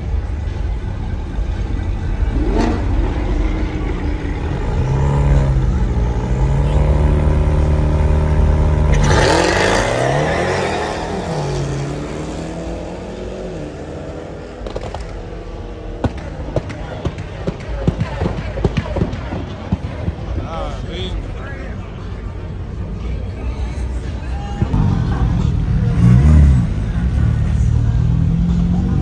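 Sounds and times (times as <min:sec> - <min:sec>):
car engines accelerating: 0:00.0 - 0:29.0
car engines revving steadily: 0:00.0 - 0:29.0.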